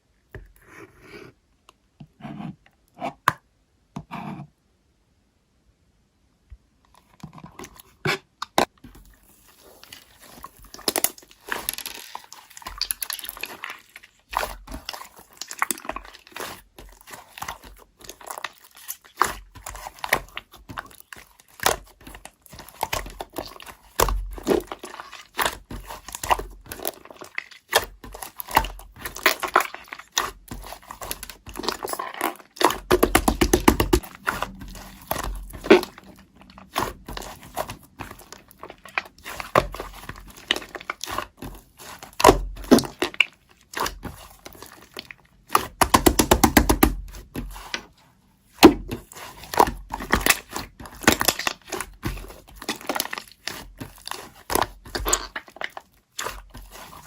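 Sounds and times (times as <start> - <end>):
crinkling and crunching material: 6.8 - 57.0.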